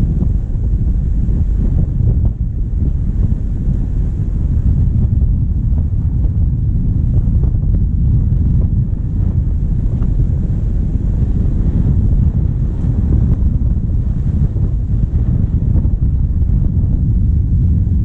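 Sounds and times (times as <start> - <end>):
diesel vehicle driving: 0.0 - 18.0
wind buffeting microphone: 0.0 - 18.0.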